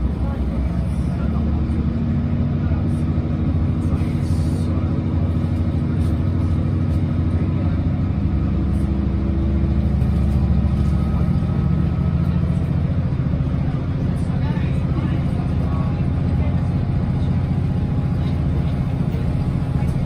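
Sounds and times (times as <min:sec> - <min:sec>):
train diesel engine droning: 0:00.0 - 0:20.0.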